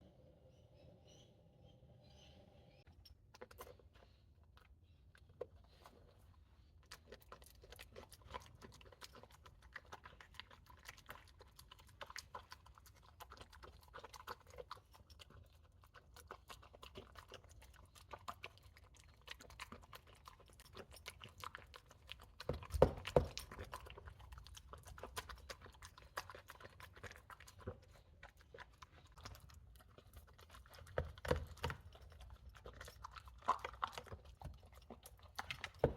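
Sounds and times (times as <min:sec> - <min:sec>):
dog crunching dog food: 0:06.8 - 0:35.9.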